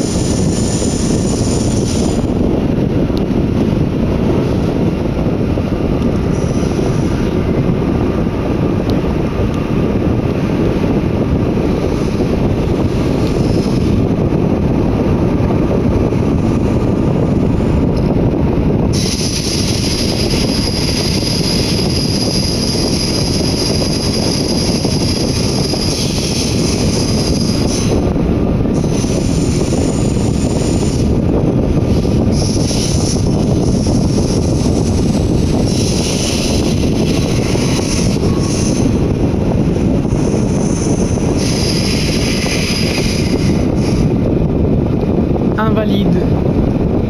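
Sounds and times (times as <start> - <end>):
train wheels rumbling: 0.0 - 47.0.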